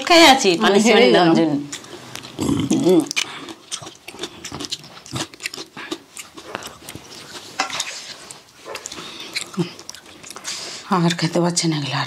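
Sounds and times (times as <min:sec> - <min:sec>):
chewing and lip-smacking: 0:01.7 - 0:11.7.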